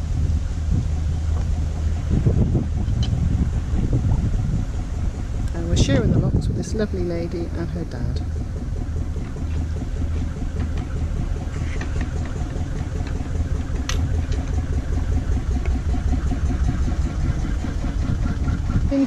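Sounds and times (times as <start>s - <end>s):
boat diesel engine throbbing: 0.0s - 19.0s.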